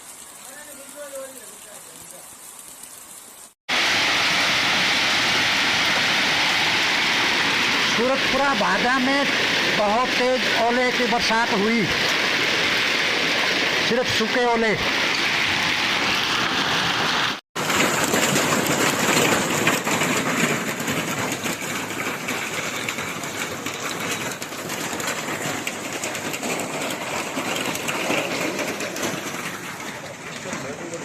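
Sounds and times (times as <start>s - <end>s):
hail rattling on hard surfaces: 0.1s - 2.7s, 3.7s - 31.0s.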